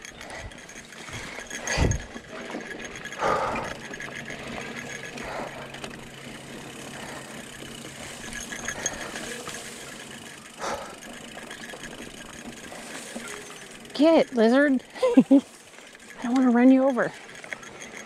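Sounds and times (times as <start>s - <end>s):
bicycle freewheel buzzing: 0.0s - 18.0s
bike rattling: 0.0s - 18.0s
tyres rolling on dirt: 0.0s - 18.0s.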